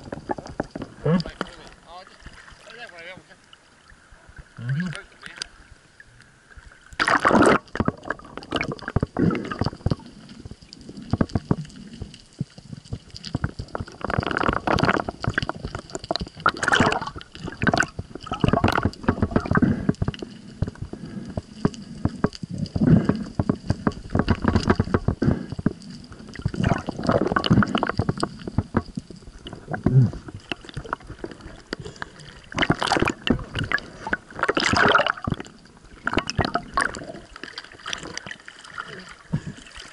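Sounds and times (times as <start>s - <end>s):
knocks and rattles underwater: 0.0s - 2.6s, 6.7s - 39.9s
water sloshing and gurgling: 0.0s - 39.9s.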